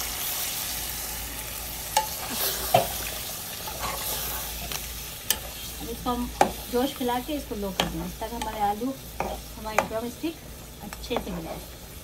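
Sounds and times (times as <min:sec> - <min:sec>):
water sizzling in hot pot: 0:00.0 - 0:12.0.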